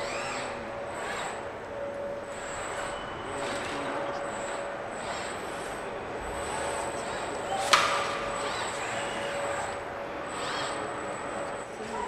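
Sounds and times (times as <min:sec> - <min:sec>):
high machine whine: 0:00.0 - 0:12.0
machinery humming: 0:00.0 - 0:12.0.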